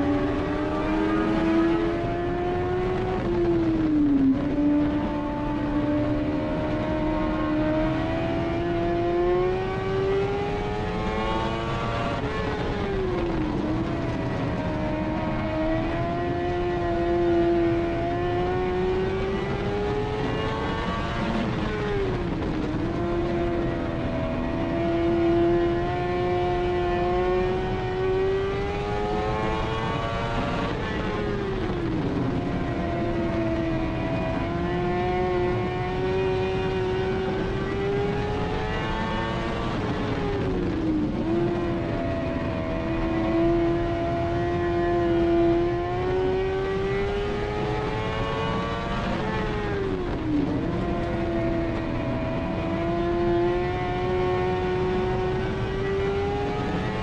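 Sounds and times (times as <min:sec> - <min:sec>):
race car engine: 0:00.0 - 0:57.0.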